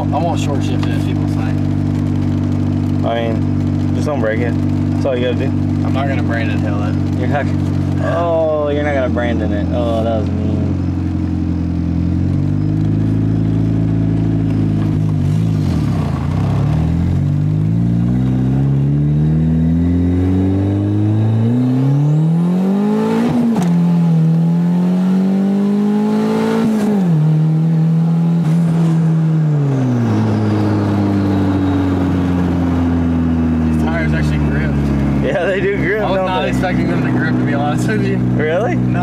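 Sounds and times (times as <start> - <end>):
car engine accelerating through gears: 0.0 - 39.0.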